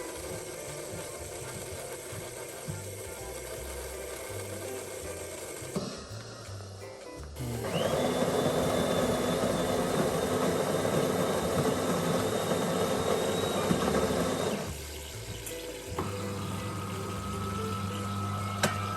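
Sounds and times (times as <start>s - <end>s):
coffee grinder whirring: 0.0s - 5.8s, 7.4s - 18.9s.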